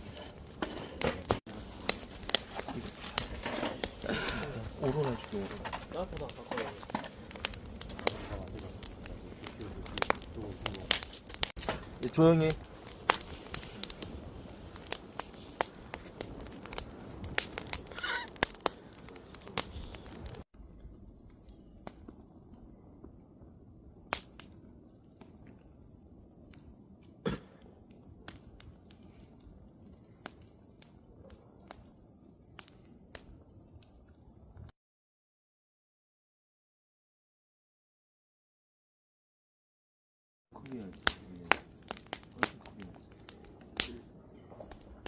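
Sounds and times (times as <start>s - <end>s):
campfire crackling and popping: 0.0s - 34.7s, 40.5s - 45.0s.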